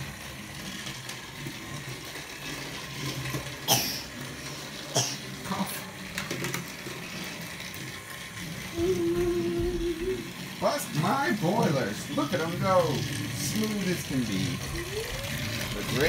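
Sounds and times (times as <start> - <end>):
toy train motor whirring: 0.0 - 16.0.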